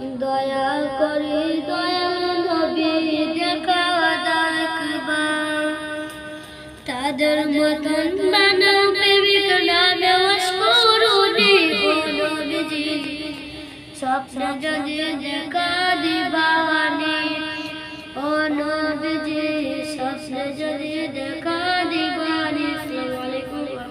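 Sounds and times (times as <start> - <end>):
boy singing devotional song: 0.0 - 23.9.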